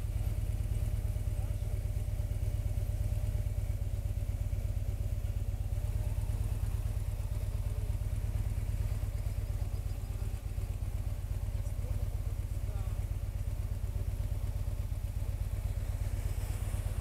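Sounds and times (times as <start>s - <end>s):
motorcycle engine idling low: 0.0s - 17.0s.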